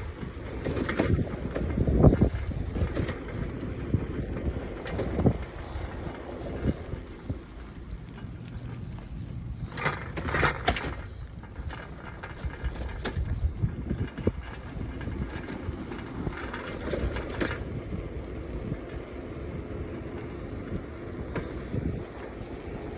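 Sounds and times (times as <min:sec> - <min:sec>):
bicycle knocks and rattles: 0:00.0 - 0:22.9
wind rumbling on microphone: 0:00.0 - 0:22.9.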